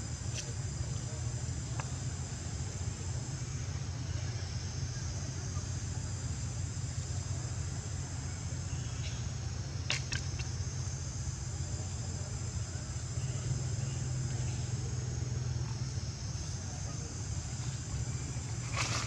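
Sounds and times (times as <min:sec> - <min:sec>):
high drone of insects: 0:00.0 - 0:19.0
steady low hum: 0:00.0 - 0:19.0.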